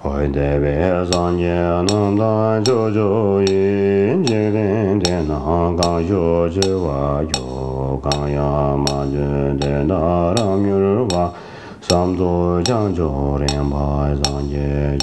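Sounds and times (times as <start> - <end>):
man chanting prayer: 0.0 - 15.0
short sharp beat: 1.1 - 15.0.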